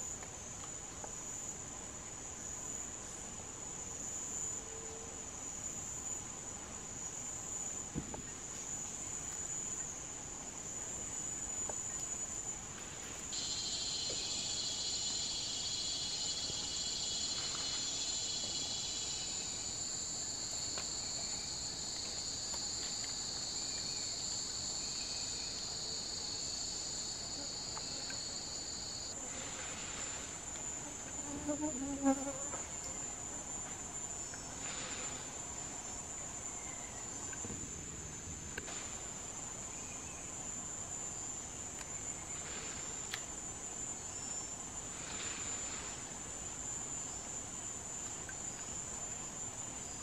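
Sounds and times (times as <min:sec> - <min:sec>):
high-pitched insects droning: 0:00.0 - 0:50.0
lower louder insect chorus: 0:00.0 - 0:50.0.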